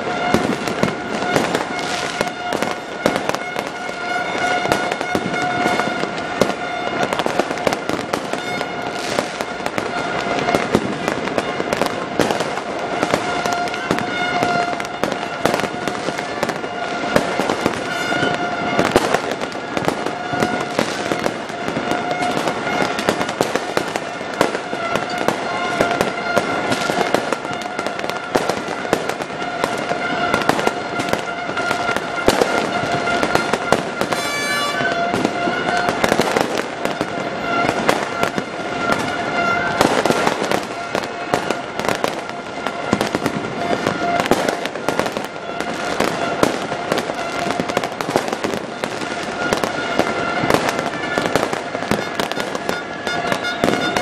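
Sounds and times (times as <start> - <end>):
fireworks bangs and crackles: 0.0 - 54.0
horn-like tone: 0.0 - 54.0.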